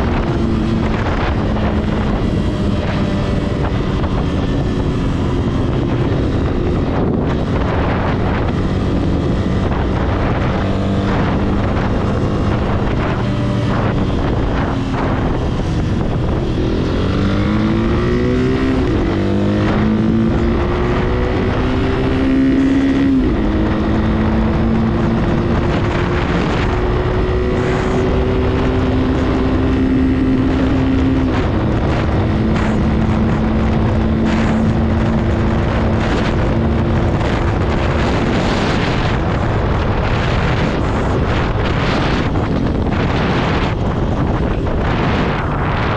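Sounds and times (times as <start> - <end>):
motorcycle engine accelerating: 0.0 - 45.9
wind rushing over microphone: 0.0 - 45.9.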